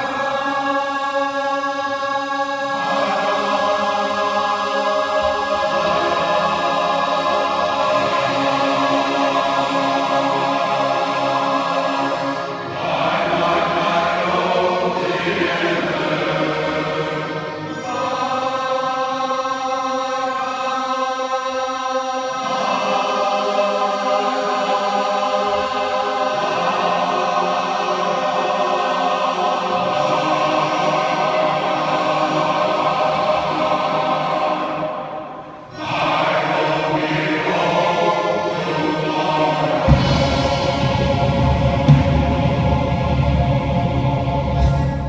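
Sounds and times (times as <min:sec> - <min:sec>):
men's choir singing chords: 0:00.0 - 0:45.0.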